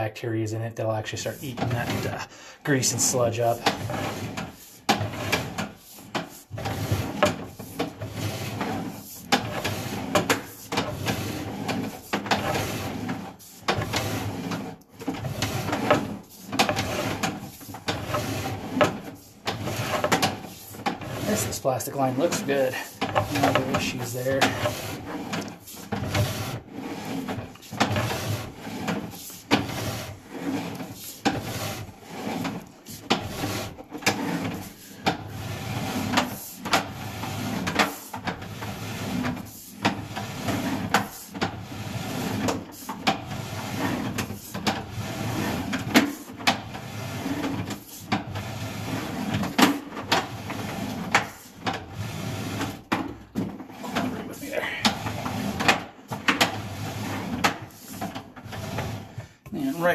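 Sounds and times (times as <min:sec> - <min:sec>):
rattling scraping cable: 0:00.8 - 0:59.9.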